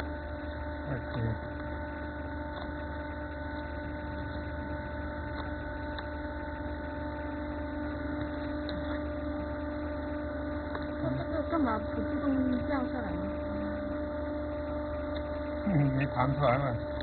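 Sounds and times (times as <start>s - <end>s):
electric machine hum: 0.0s - 17.0s
low background drone: 0.0s - 17.0s.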